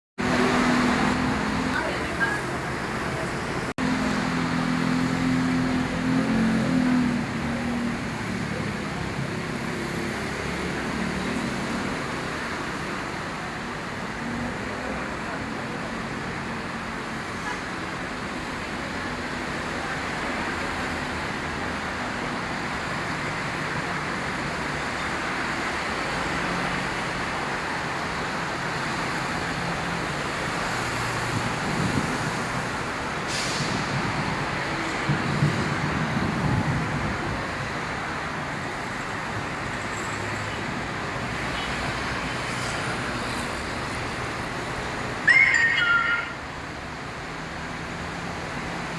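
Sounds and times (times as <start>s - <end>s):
busy road traffic: 0.2s - 48.9s
passing vehicles rumbling: 0.2s - 48.9s.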